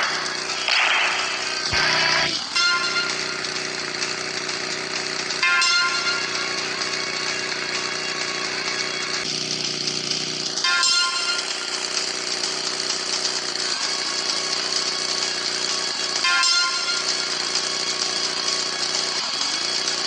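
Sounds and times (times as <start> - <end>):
small motorcycle engine buzzing: 0.0 - 20.0.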